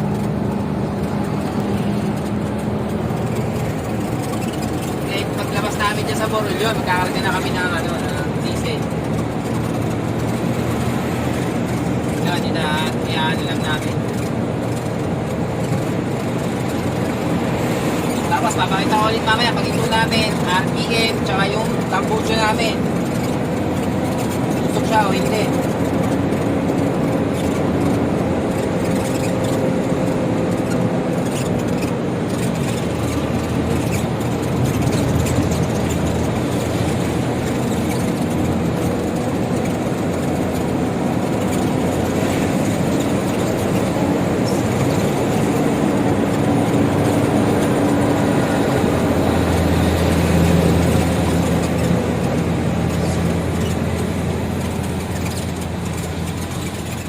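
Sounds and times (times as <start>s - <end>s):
road noise: 0.0s - 57.0s
truck diesel engine driving: 0.0s - 57.0s.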